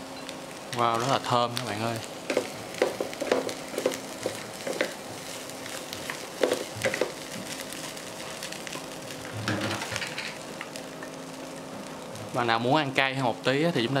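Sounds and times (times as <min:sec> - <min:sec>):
fried rice sizzling in pan: 0:00.0 - 0:14.0.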